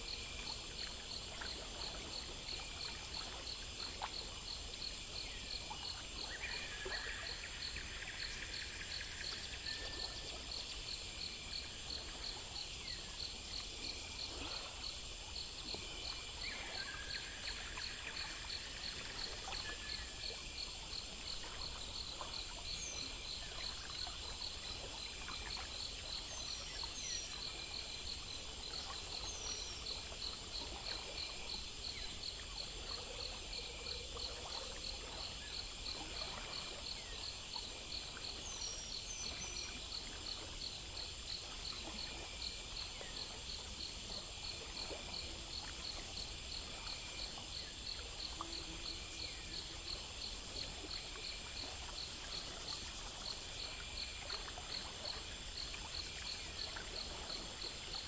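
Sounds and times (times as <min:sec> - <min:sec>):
crickets and insects chirping: 0:00.0 - 0:58.0
faint trickle of water: 0:00.0 - 0:58.0.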